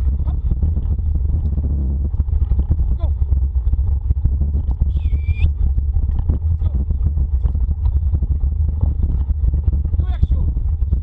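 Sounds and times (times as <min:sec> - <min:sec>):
wheeled rig rattling over dirt: 0:00.0 - 0:11.0
wind buffeting microphone: 0:00.0 - 0:11.0.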